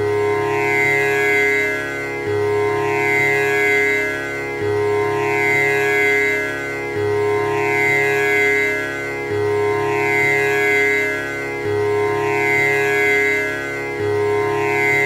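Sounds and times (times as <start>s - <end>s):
tanpura drone: 0.0s - 15.0s.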